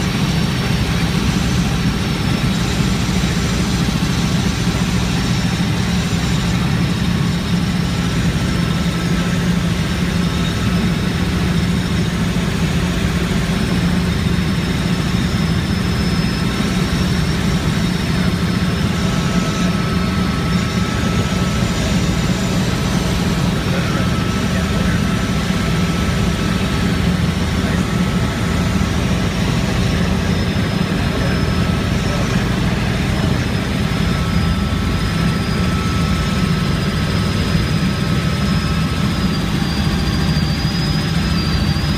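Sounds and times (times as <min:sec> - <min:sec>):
helicopter rotor and engine drone: 0:00.0 - 0:41.9.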